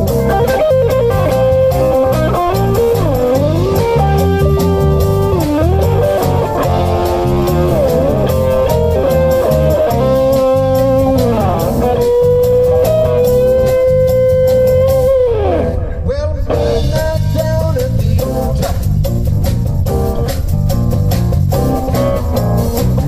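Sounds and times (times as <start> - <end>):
drum kit beat: 0.0 - 23.0
lead guitar bent notes: 0.0 - 23.0.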